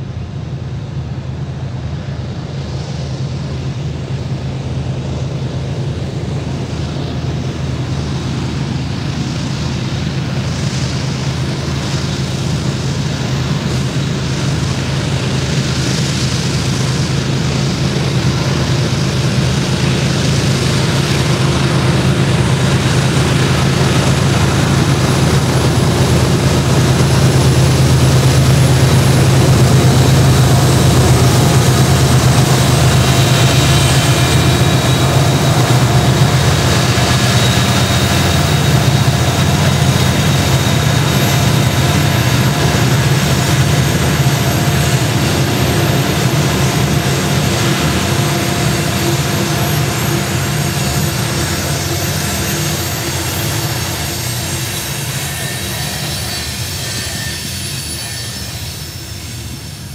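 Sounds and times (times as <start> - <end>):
locomotive engines droning: 0.0 - 59.9.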